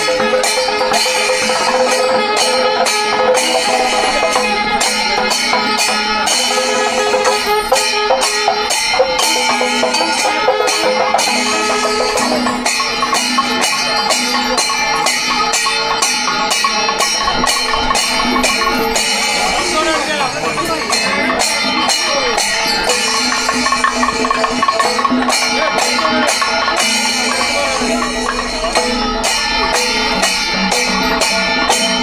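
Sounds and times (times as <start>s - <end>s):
hand cymbals clashing: 0.0s - 32.0s
held pitched tones: 0.0s - 32.0s
traditional percussion music: 0.0s - 32.0s.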